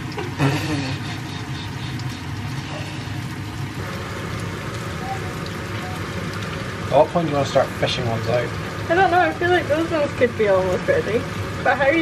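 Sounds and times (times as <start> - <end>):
dough frying in hot oil: 0.0 - 12.0.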